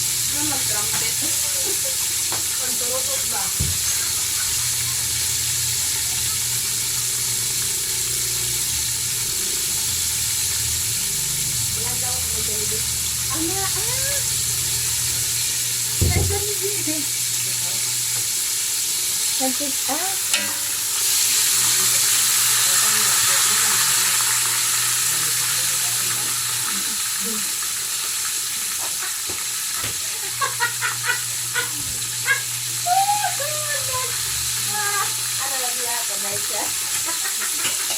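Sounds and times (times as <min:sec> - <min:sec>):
chicken sizzling in hot oil: 0:00.0 - 0:37.9.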